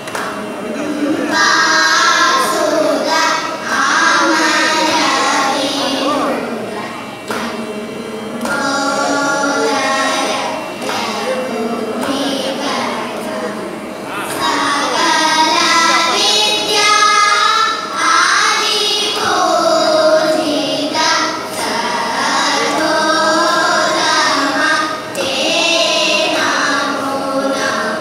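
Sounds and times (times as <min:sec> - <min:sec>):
children singing in unison: 0:00.0 - 0:28.0
electronic drone note: 0:00.0 - 0:28.0.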